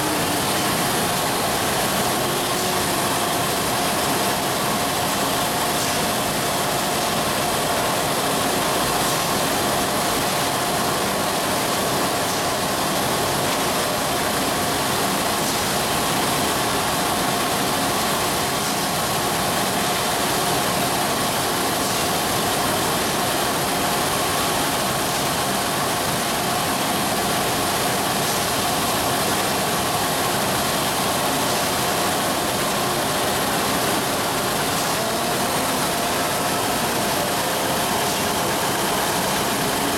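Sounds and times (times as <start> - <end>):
labeling machine hum and whir: 0.0 - 39.9.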